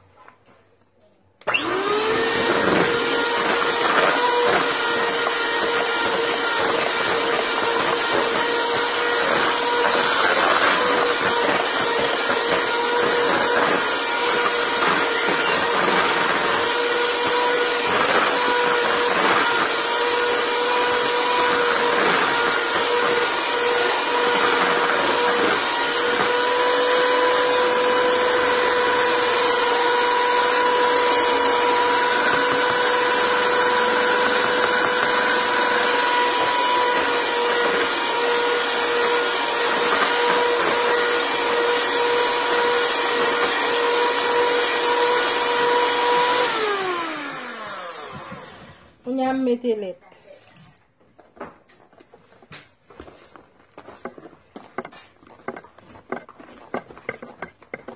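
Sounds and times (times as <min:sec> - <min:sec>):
mixer motor spinning down: 0:01.4 - 0:49.1
electric hand mixer whining: 0:01.4 - 0:49.4, 0:53.9 - 0:57.9.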